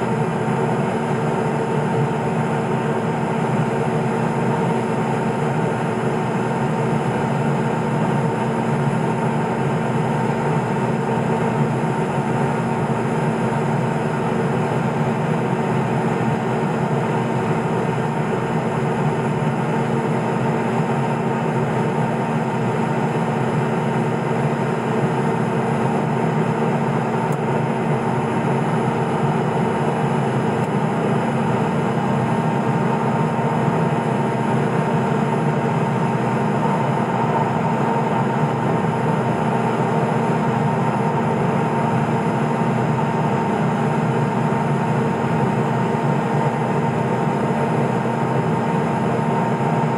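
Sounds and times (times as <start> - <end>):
turboprop engine drone in cockpit: 0.0 - 49.9.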